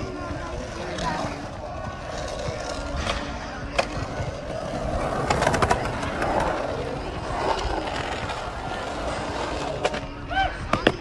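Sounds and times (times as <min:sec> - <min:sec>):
skateboard wheels rolling on concrete: 0:00.0 - 0:11.0.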